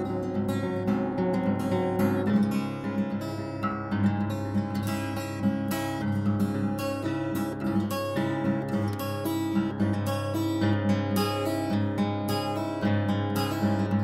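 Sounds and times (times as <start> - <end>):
strummed acoustic guitar music: 0.0 - 14.0.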